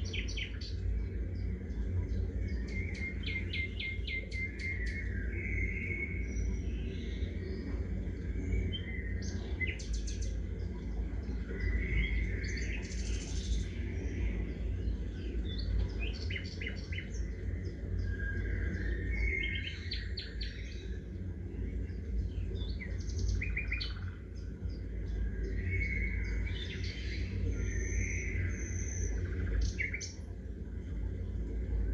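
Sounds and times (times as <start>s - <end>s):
songbirds chirping and trilling: 0.0s - 31.9s
steady low rumble: 0.0s - 31.9s.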